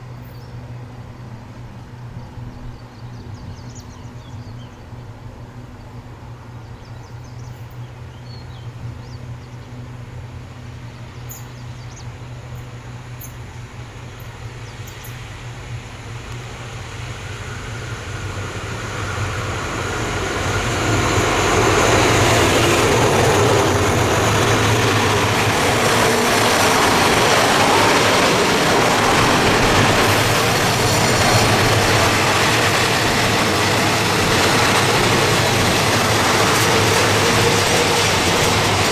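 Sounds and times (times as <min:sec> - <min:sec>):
moving train running noise: 0:00.0 - 0:38.9
train engine hum: 0:00.0 - 0:38.9.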